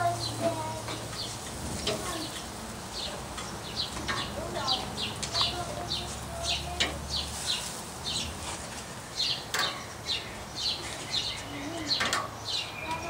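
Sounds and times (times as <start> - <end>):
bird chirping: 0.1 - 8.4, 9.0 - 13.0.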